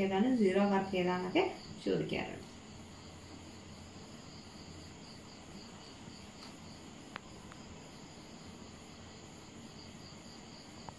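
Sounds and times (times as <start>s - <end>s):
crickets chirping: 0.0s - 10.9s.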